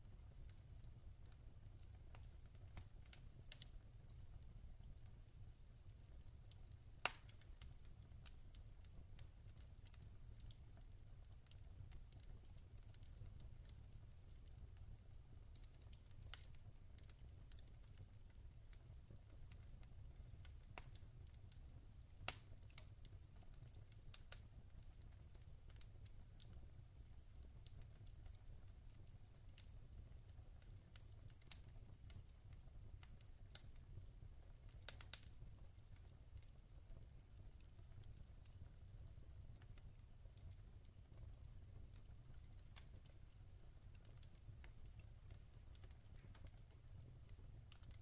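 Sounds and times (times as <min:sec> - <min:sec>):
log fire crackling: 0:00.0 - 0:48.0.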